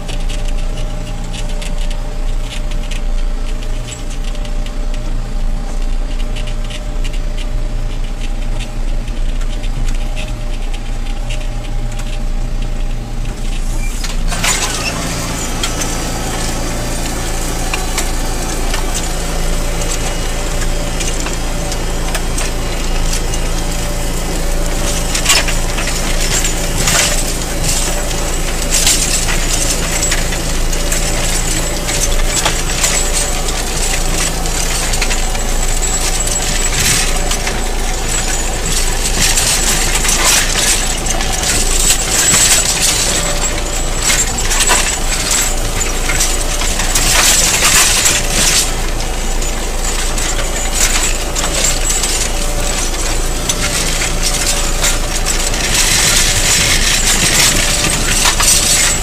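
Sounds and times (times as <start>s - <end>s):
tractor engine hum: 0.0s - 59.0s
stones scraping against plough: 11.2s - 59.0s.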